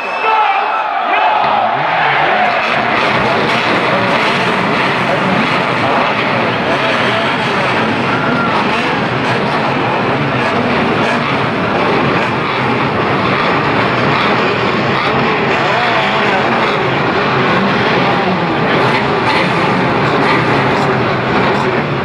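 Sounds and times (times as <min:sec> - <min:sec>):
race car engines running: 0:01.4 - 0:22.0.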